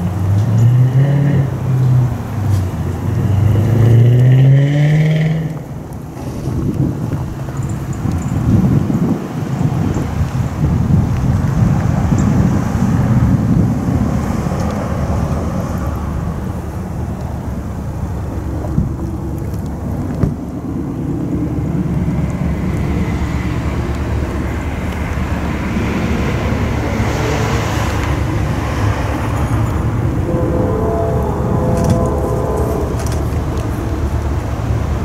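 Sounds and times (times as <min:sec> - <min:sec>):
diesel locomotives rumbling: 0:00.0 - 0:35.0.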